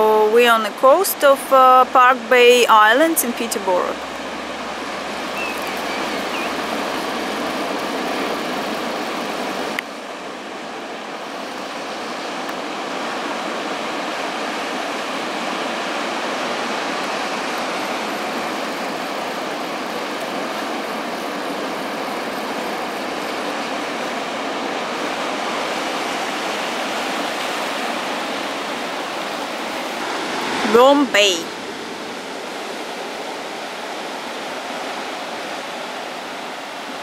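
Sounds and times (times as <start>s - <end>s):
sea surf: 0.0s - 37.0s
wind: 0.0s - 37.0s.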